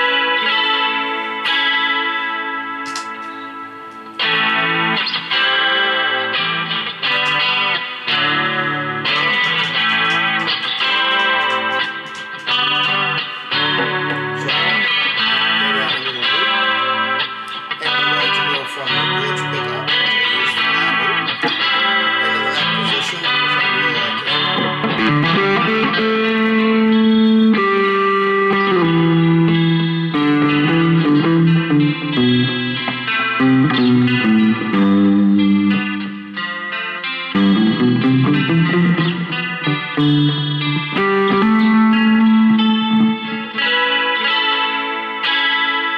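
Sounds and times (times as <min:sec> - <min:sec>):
clean electric guitar chords: 0:00.0 - 0:45.9
overdriven electric guitar lead: 0:00.0 - 0:45.9.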